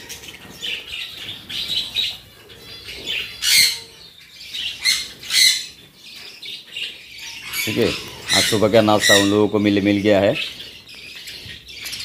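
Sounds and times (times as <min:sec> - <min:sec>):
budgerigars chattering and squawking: 0:00.0 - 0:12.0.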